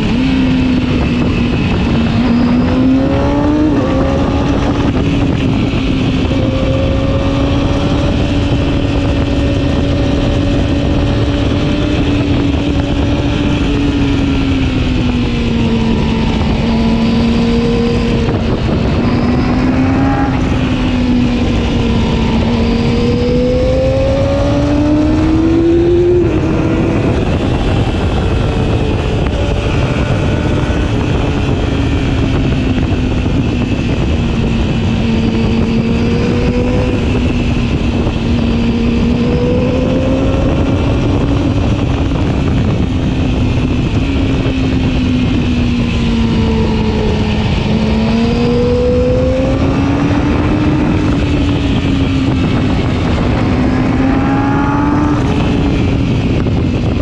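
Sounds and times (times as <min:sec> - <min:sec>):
motorcycle engine at high revs: 0:00.0 - 0:57.0
wind and road rush: 0:00.0 - 0:57.0.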